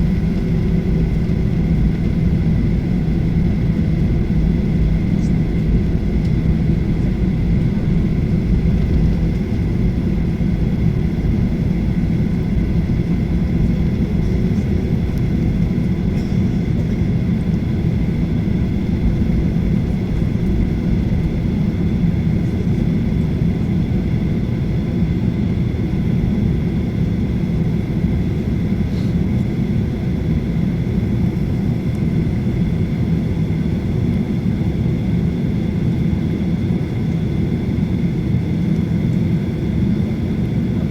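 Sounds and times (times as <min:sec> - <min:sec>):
airplane cabin rumble: 0:00.0 - 0:40.9
faint high engine whine: 0:00.0 - 0:40.9.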